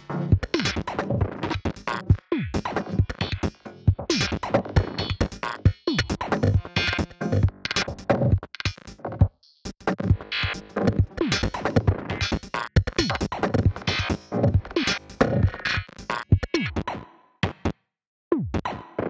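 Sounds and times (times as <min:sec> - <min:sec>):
electronic music with drum machine: 0:00.0 - 0:17.8, 0:18.4 - 0:19.0.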